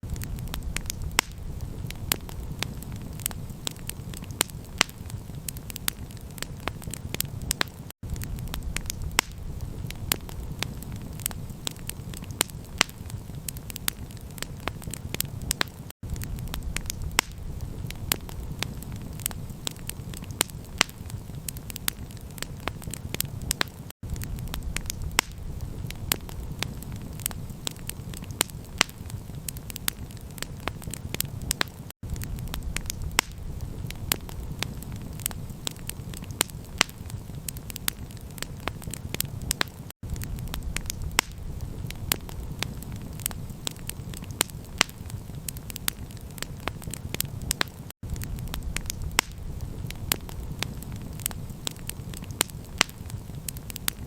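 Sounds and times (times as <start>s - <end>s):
campfire crackling: 0.0s - 54.0s
low fire rumble: 0.0s - 54.0s.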